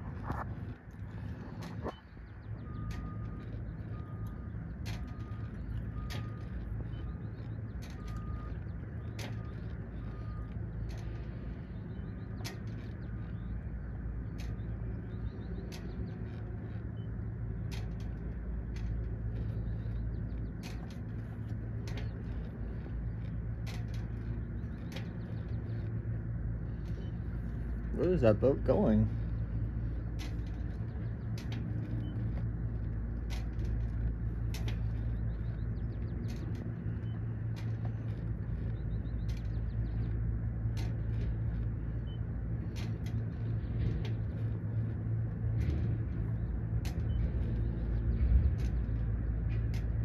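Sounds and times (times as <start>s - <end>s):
boat engine humming: 0.0s - 50.0s
sharp clicks: 0.1s - 50.0s.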